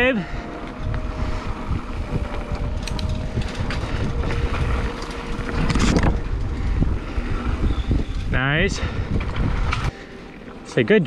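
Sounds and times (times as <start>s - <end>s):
wind buffeting microphone: 0.0s - 10.2s
mountain bike rolling on dirt: 0.0s - 10.7s
bike rattling and clicking: 0.0s - 10.8s.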